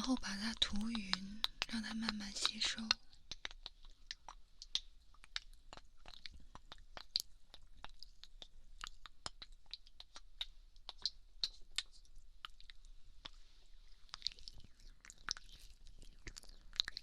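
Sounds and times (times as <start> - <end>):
fingers spreading sticky cream: 0.6 - 17.0.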